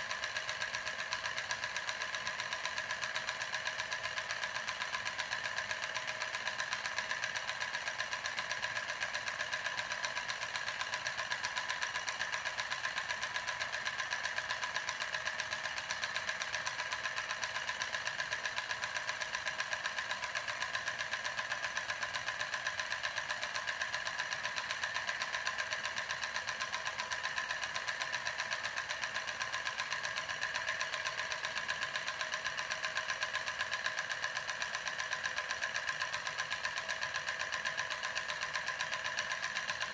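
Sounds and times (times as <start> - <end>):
small steam engine ticking: 0.0 - 39.9.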